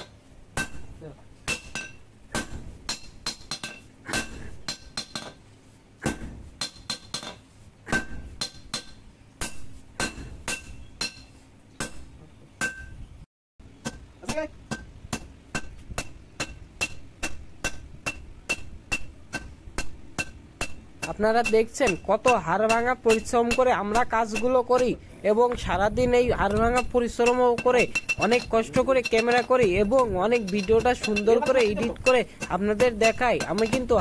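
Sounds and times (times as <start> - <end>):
hammer striking steel on anvil: 0.0 - 5.4, 6.0 - 13.0, 13.8 - 25.0, 26.5 - 34.0.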